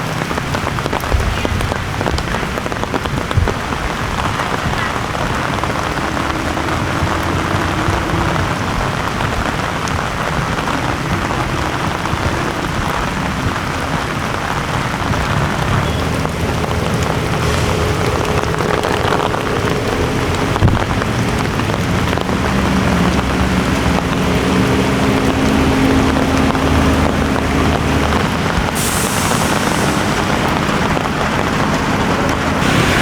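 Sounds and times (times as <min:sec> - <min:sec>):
heavy rain falling: 0:00.0 - 0:33.0
vehicle engine humming: 0:00.0 - 0:33.0.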